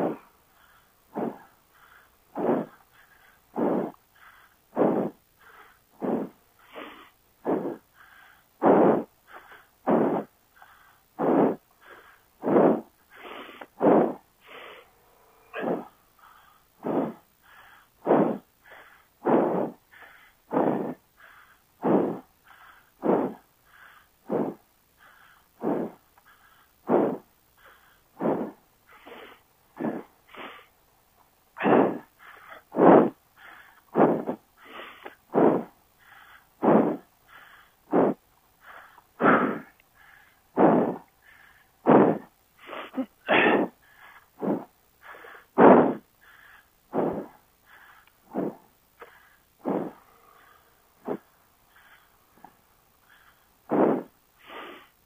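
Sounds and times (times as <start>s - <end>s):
person breathing hard: 0.0s - 55.0s.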